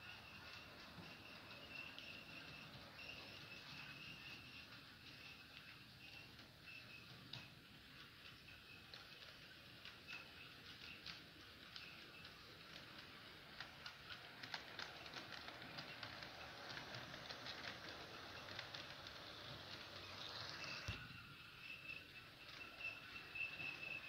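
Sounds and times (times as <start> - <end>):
model train wheels clicking: 0.0 - 24.0.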